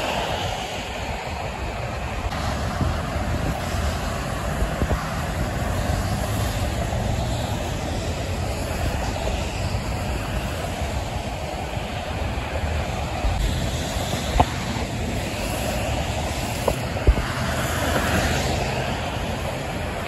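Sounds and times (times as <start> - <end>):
passing cars rumbling: 0.0 - 20.0
tyres hissing on wet road: 0.0 - 20.0
tractor-trailer passing: 2.3 - 20.0.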